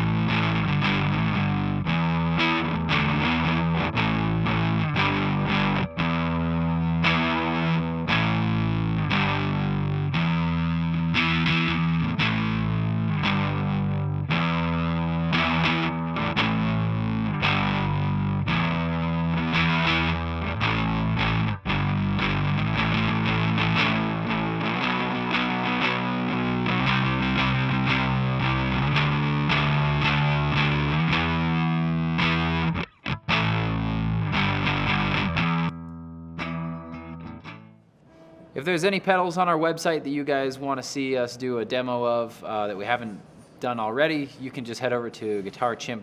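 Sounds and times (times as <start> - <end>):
distorted electric guitar chords: 0.0 - 38.6.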